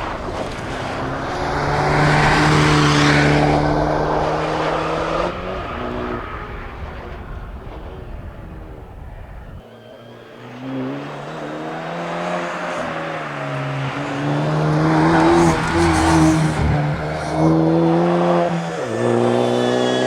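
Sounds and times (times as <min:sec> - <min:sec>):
rally car engine at full throttle: 0:00.0 - 0:20.0
tyre noise: 0:00.0 - 0:20.0.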